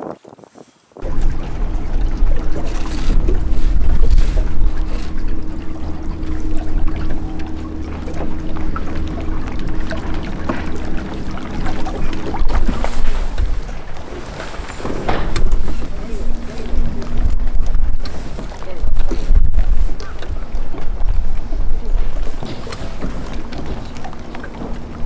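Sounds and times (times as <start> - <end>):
water against hull: 0.0 - 25.0
wind rumble on microphone: 0.0 - 25.0
boat motor humming: 1.0 - 25.0.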